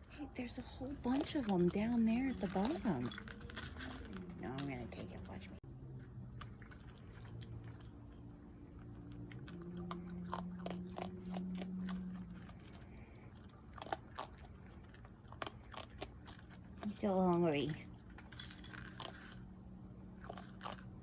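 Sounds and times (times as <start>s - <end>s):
animal crunching dry food: 0.4s - 21.0s.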